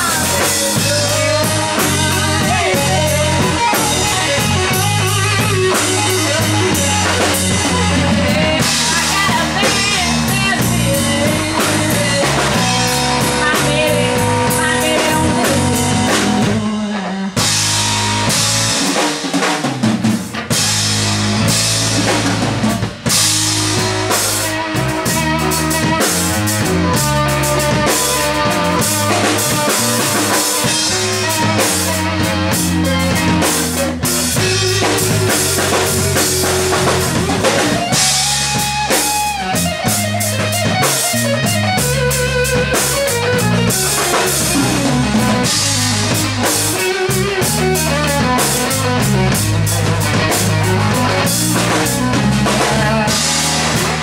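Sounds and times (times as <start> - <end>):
gliding lead guitar line: 0.0 - 54.0
live band playing: 0.0 - 54.0.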